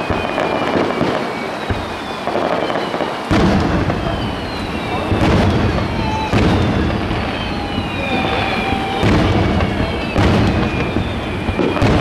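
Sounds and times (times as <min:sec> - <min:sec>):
fireworks crackle: 0:00.0 - 0:12.0
fireworks launching and bursting: 0:00.0 - 0:12.0
heavy fireworks booms: 0:00.0 - 0:12.0.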